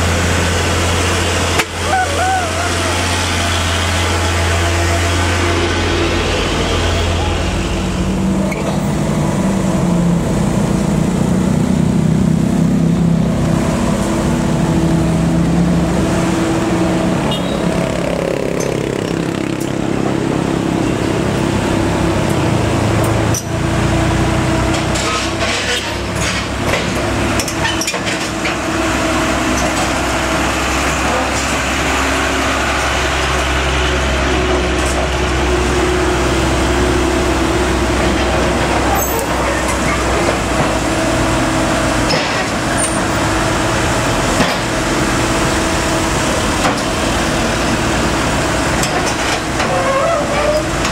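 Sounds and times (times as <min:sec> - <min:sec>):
diesel engines running: 0:00.0 - 0:50.9
traffic passing close by: 0:00.0 - 0:50.9.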